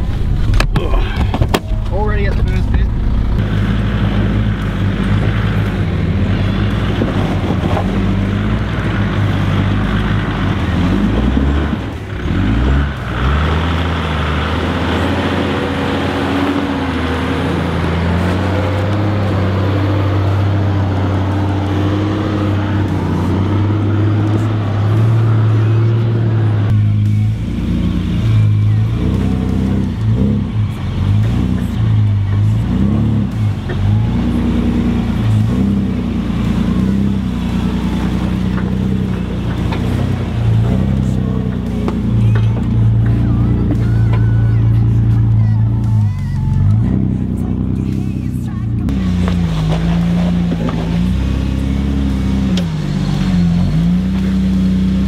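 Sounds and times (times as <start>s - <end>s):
vehicle engines revving at low speed: 0.0s - 55.0s.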